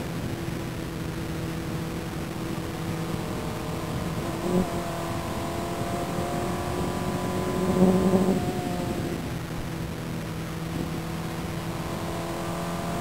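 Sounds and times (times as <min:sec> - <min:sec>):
race car engine running: 0:00.0 - 0:13.0.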